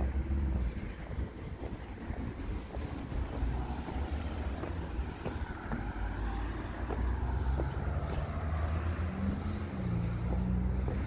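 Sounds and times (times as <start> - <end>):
road traffic rumble: 0.0 - 11.0
wind buffeting microphone: 0.0 - 11.0.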